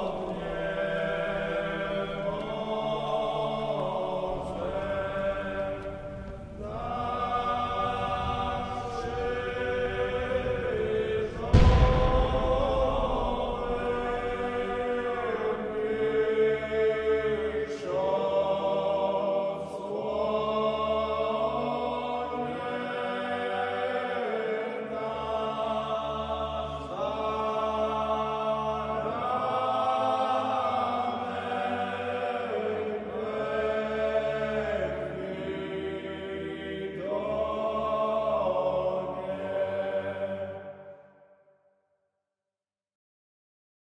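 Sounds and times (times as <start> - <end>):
choral chant: 0.0 - 41.5.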